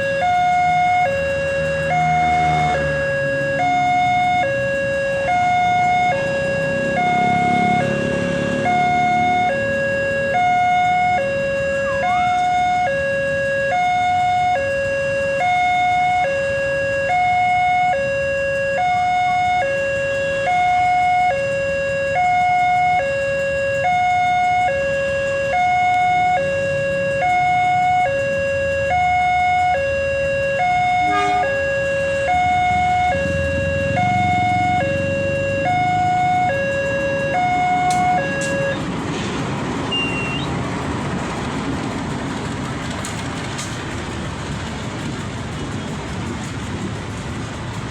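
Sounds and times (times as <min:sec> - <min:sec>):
level crossing warning siren: 0:00.0 - 0:47.9
low road traffic rumble: 0:00.0 - 0:47.9.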